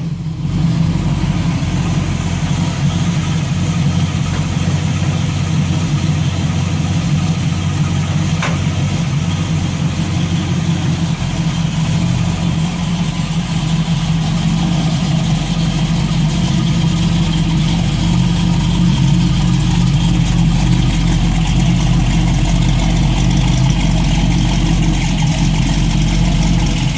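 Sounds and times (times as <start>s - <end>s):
car engine rumbling: 0.0s - 26.9s.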